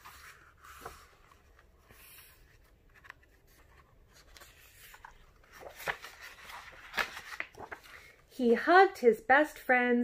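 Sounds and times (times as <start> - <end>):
book page rustling: 0.0 - 8.6.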